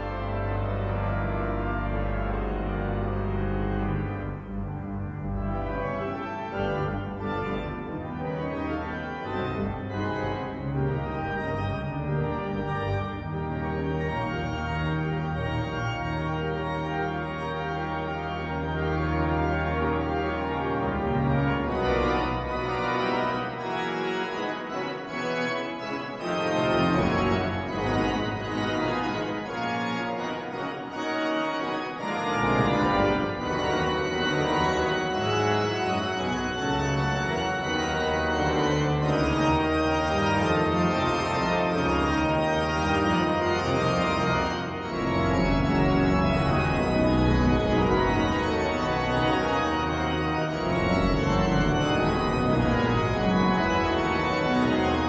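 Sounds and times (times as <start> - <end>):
pipe organ playing loud chords: 0.0 - 55.0.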